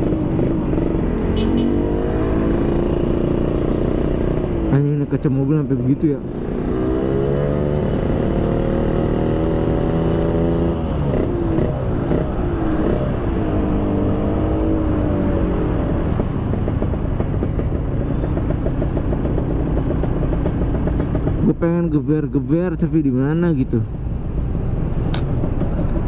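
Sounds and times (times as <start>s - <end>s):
motorcycle engine running: 0.0s - 21.8s
road rumble: 0.0s - 26.0s
wind: 0.0s - 26.0s.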